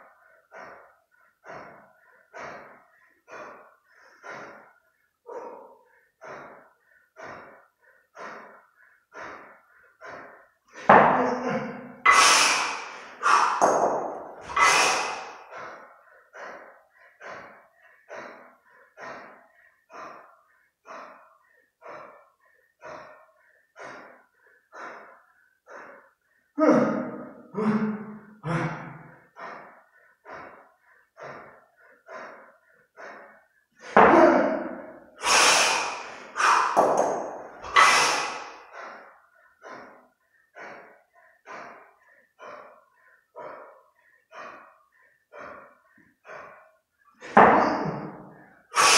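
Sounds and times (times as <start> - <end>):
harsh huffs: 0.0 - 48.9
person breathing hard: 0.0 - 48.9.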